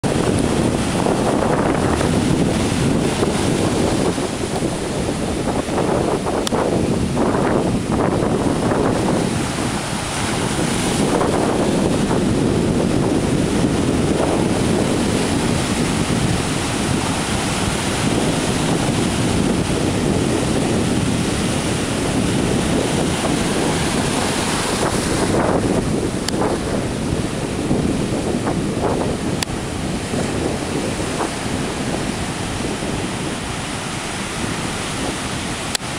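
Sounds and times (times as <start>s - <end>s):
ocean surf breaking: 0.0s - 35.9s
wind buffeting microphone: 0.0s - 35.9s.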